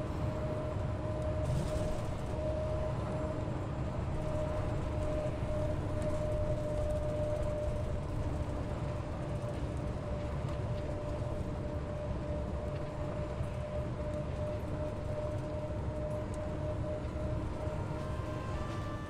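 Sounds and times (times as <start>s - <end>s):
bus engine and road rumble: 0.0s - 19.0s
steady whine: 0.0s - 19.0s.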